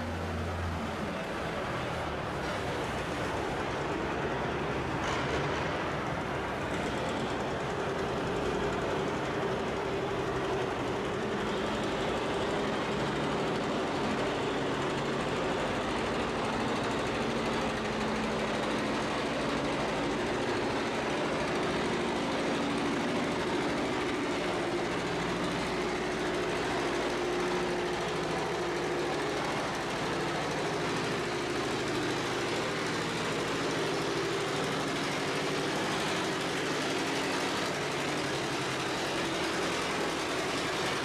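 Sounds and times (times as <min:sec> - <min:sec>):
tractor engine under heavy load: 0:00.0 - 0:41.0.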